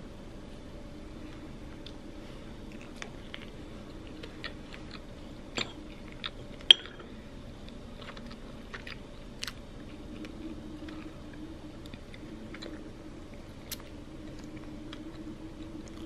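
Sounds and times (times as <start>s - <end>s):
low steady hum: 0.0s - 16.0s
soft eating sounds: 0.5s - 16.0s.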